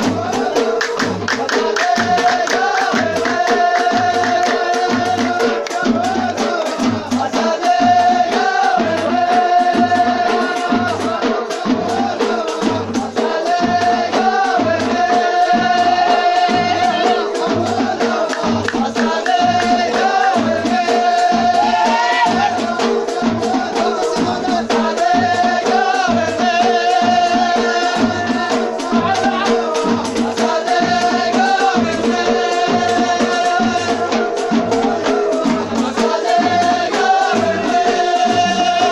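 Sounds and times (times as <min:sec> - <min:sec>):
drum beat: 0:00.0 - 0:38.9
rattling percussion: 0:00.0 - 0:38.9.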